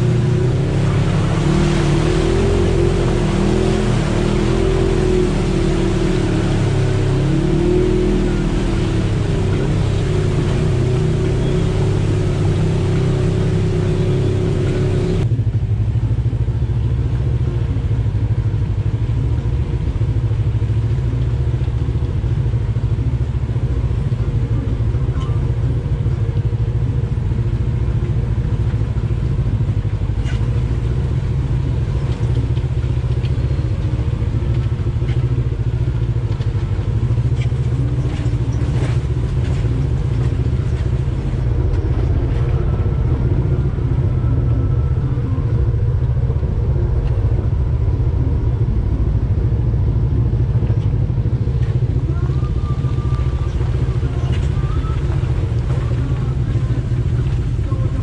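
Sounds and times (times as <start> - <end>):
vehicle engine droning: 0.0 - 58.0.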